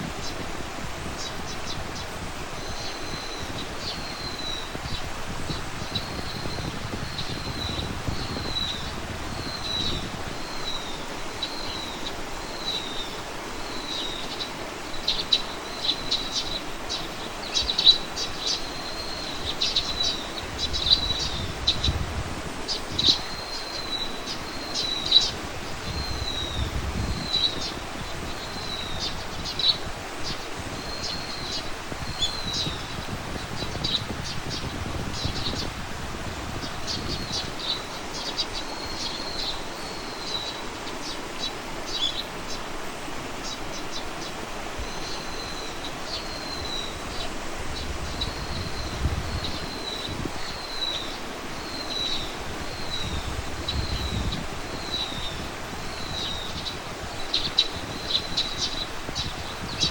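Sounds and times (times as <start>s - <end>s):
low wind rumble: 0.0s - 59.9s.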